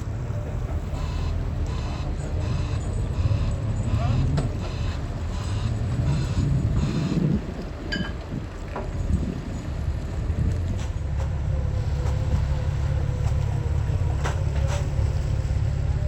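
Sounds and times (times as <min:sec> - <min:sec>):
boat engine deep rumble: 0:00.0 - 0:16.0.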